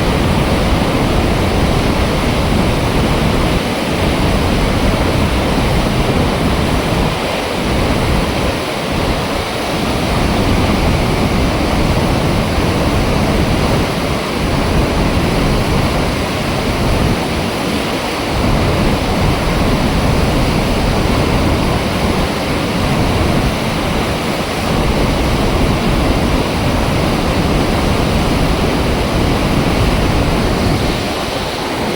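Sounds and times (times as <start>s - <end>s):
water rushing through dam gate: 0.0s - 31.9s.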